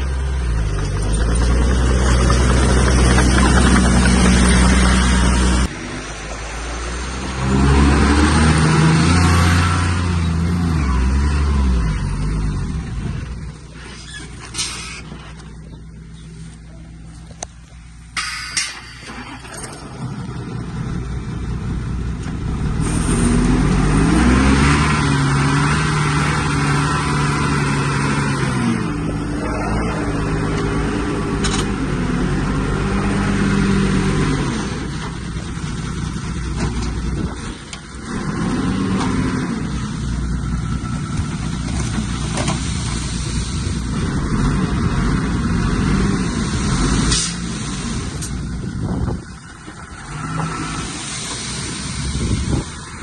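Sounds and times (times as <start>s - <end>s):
diesel engine revving under load: 0.0s - 16.3s, 18.1s - 53.0s.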